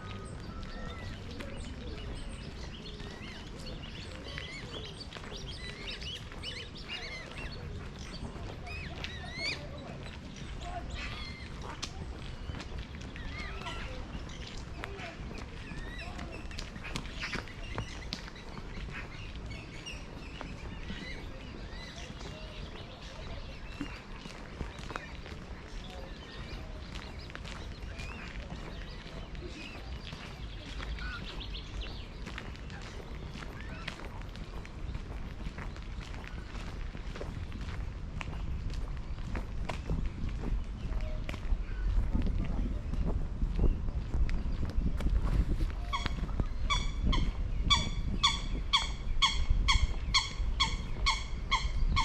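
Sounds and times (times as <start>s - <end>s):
birds chirping: 0.0s - 52.0s
wind rumbling on microphone: 0.0s - 52.0s.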